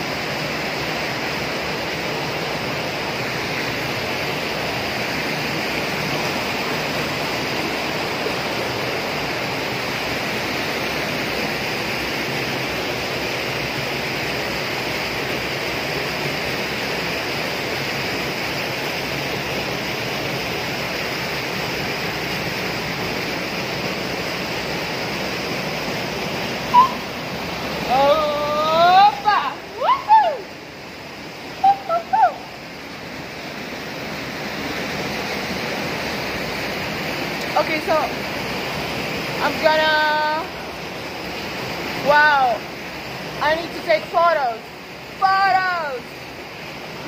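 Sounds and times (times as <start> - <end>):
mountain stream rushing: 0.0 - 47.0.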